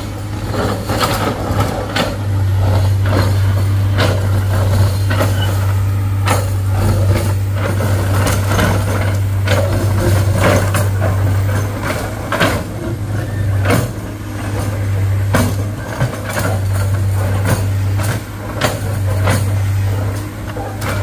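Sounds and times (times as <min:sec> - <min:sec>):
diesel engine drone: 0:00.0 - 0:21.0
engine knocking and clatter: 0:00.0 - 0:21.0.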